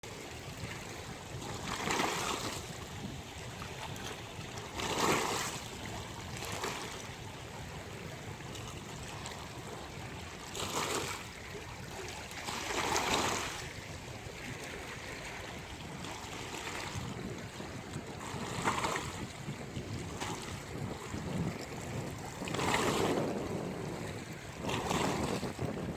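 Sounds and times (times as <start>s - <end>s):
sea waves breaking on beach: 0.0s - 25.9s.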